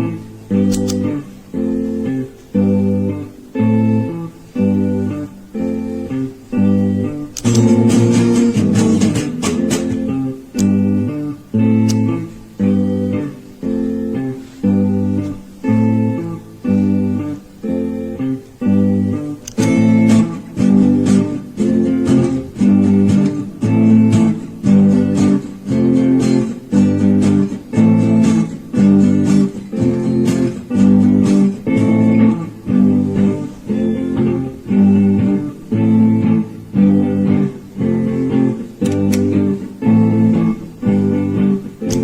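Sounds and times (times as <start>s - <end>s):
guitar strumming chords: 0.0s - 42.0s.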